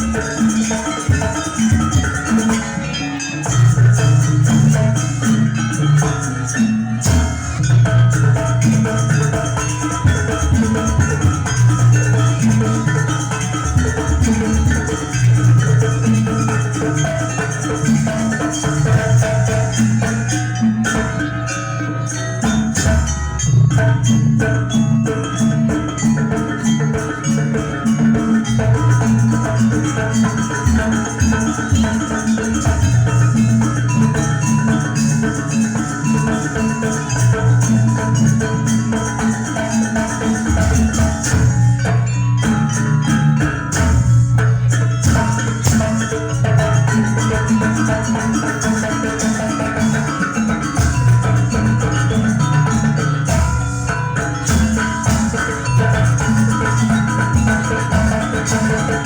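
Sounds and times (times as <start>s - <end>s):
drums: 0.0s - 59.0s
gamelan metallophones: 0.0s - 59.0s.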